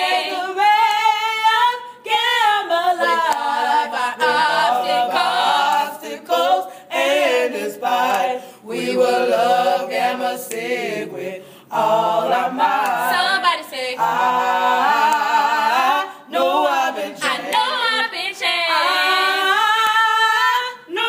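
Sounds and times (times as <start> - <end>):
voices singing a cappella: 0.0 - 21.0.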